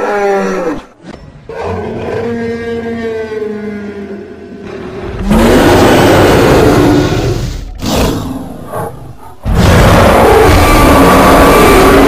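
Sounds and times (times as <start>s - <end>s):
dinosaur roar: 1.5s - 12.0s
dinosaur growl: 1.7s - 12.0s.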